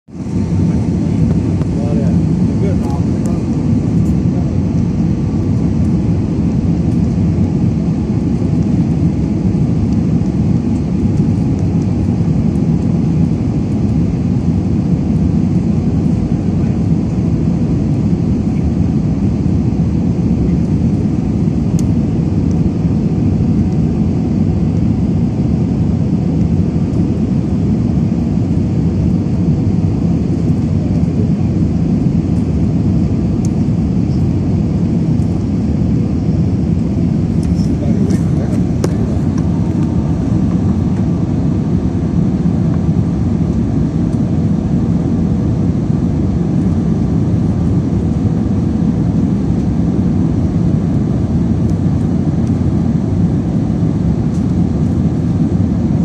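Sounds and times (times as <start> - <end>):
airliner cabin engine rumble: 0.1 - 56.0.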